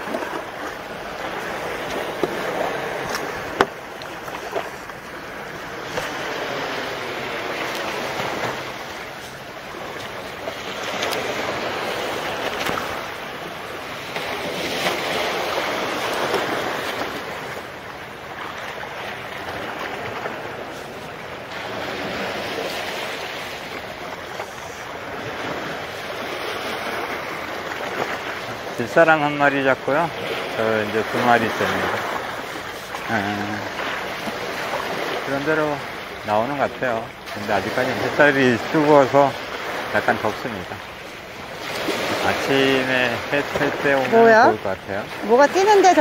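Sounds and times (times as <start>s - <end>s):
small waves washing on concrete: 0.0s - 46.0s.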